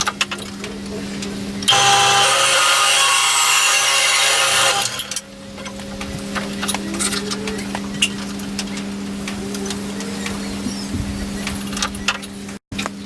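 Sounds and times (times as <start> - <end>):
bandsaw motor hum: 0.0 - 12.6.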